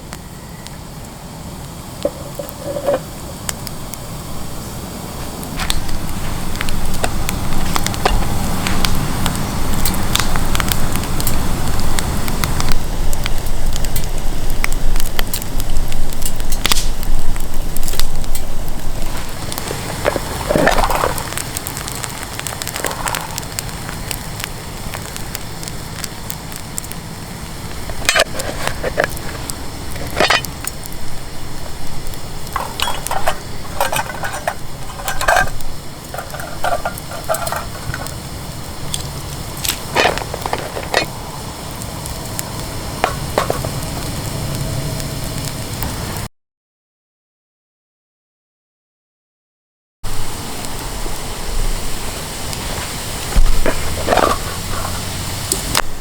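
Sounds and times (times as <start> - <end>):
campfire crackling and popping: 0.0 - 46.3, 50.1 - 56.0.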